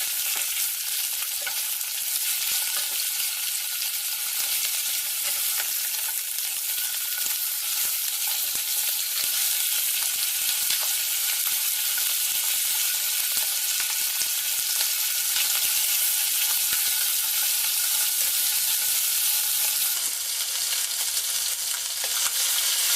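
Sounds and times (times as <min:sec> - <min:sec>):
food sizzling in hot oil: 0:00.0 - 0:22.9.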